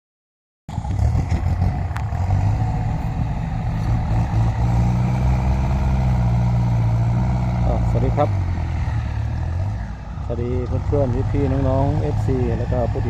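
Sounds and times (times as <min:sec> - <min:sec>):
tractor diesel engine running: 0:00.7 - 0:13.0.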